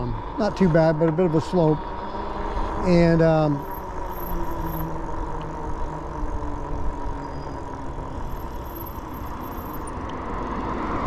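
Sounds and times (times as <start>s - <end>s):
faint electric motor whine: 0.0s - 11.0s
tyres rumbling on asphalt: 0.0s - 11.0s.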